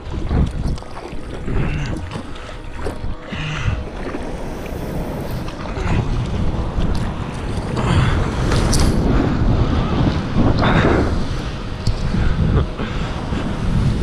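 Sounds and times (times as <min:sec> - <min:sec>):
water splashing along surfboard: 0:00.0 - 0:14.0
wind buffeting microphone: 0:00.0 - 0:14.0.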